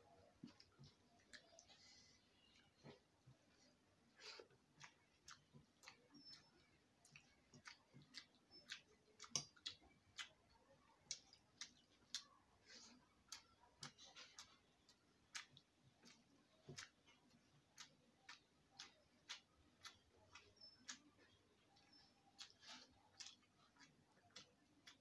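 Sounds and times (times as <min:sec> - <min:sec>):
mouth clicks of person chewing: 0:00.4 - 0:03.0, 0:04.2 - 0:25.0.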